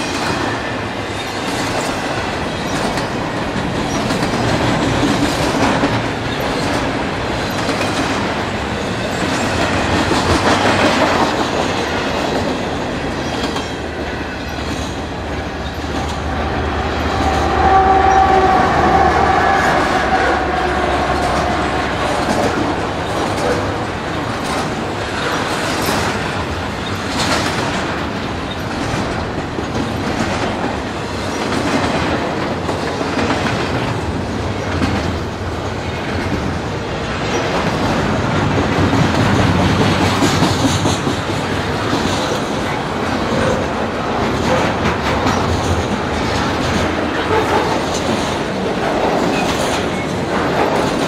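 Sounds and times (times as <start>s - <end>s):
freight train wheels clattering: 0.0s - 51.0s.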